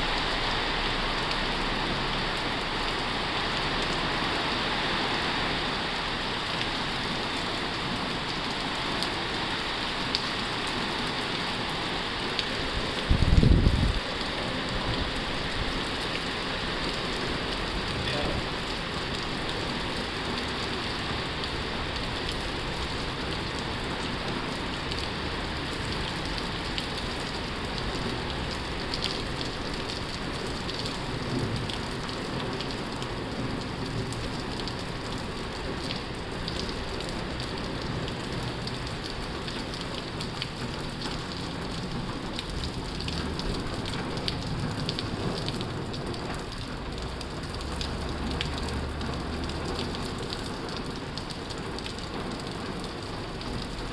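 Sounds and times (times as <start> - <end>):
heavy rain on a tin roof: 0.0 - 53.9.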